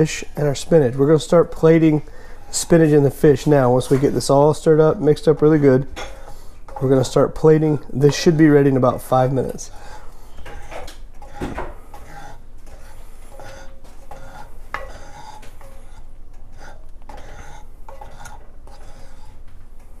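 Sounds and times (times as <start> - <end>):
wooden spoon scraping a skillet: 0.0 - 20.0.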